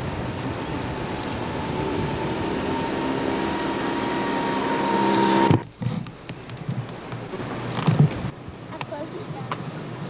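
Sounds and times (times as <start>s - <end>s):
road and wind noise: 0.0s - 10.0s
vehicle engine hum: 0.0s - 10.0s.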